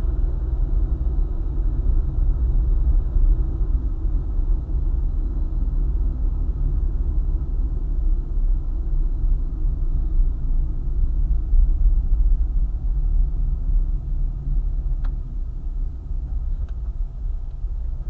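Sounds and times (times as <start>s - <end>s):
car tyres and engine rumble: 0.0s - 18.0s.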